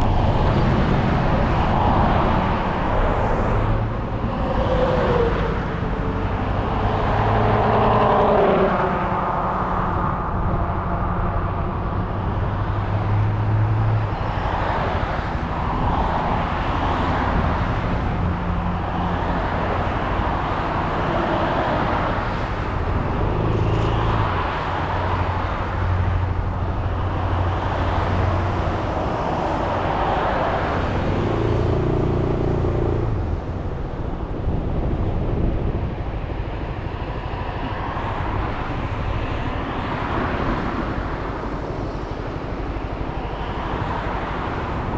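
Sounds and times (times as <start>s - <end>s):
rushing wind and road noise: 0.0s - 44.9s.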